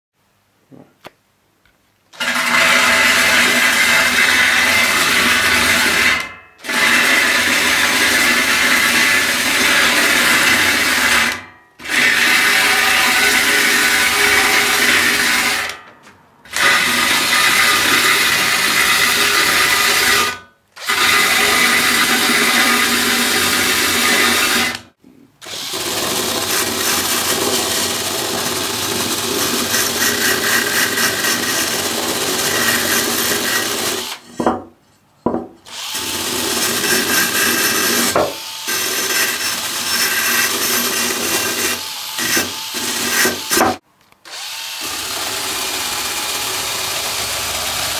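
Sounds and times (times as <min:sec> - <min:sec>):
cordless drill sanding metal: 0:02.2 - 0:15.8, 0:16.5 - 0:24.9, 0:25.5 - 0:34.3, 0:35.7 - 0:47.9.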